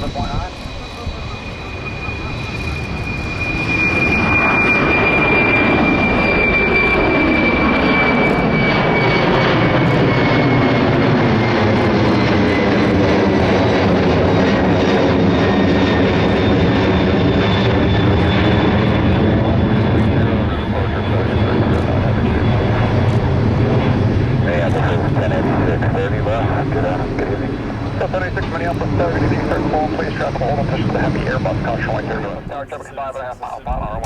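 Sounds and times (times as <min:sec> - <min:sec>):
jet airliner engines passing: 0:00.0 - 0:34.0.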